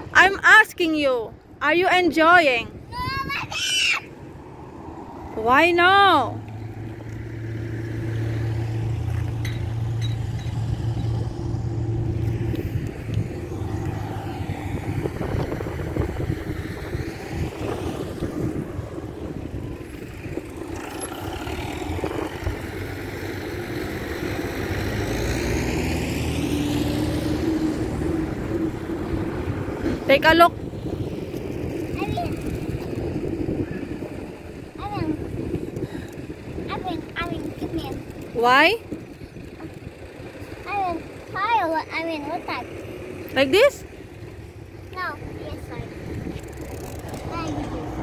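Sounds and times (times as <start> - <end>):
vehicles passing on road: 0.0 - 48.0.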